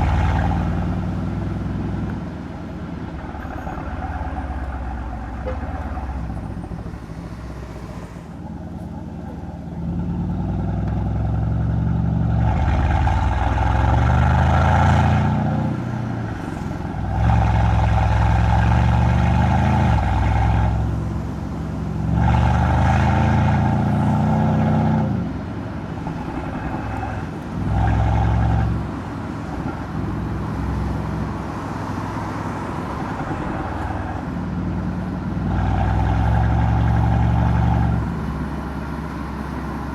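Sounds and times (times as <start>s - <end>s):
car exhaust under hard acceleration: 0.0s - 39.9s.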